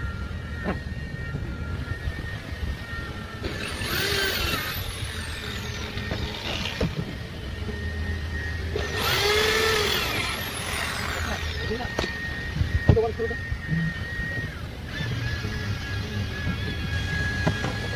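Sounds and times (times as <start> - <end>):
cordless drill motor whine: 0.0 - 17.9
steady low hum: 0.0 - 17.9.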